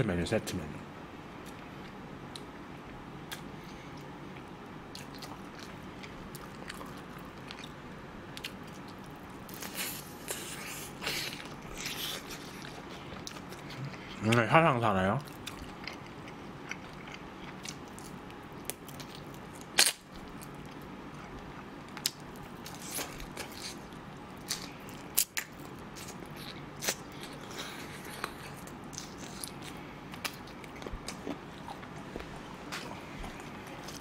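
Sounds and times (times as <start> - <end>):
chewing crispy fried chicken: 3.3 - 34.0.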